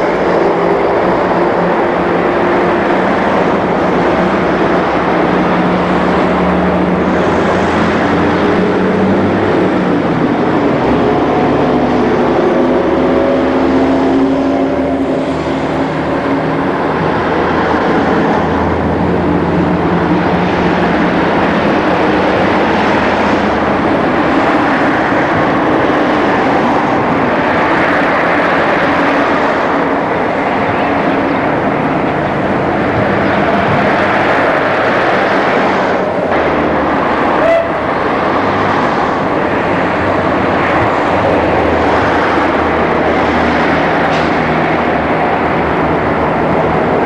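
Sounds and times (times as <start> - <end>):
diesel railcar engine rumbling: 0.0 - 47.0.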